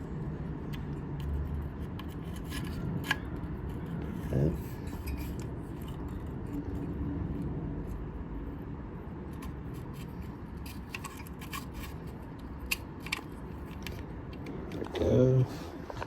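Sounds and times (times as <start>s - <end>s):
steady low hum: 0.0s - 16.0s
metal parts clicking and scraping: 0.7s - 8.0s, 9.3s - 15.0s.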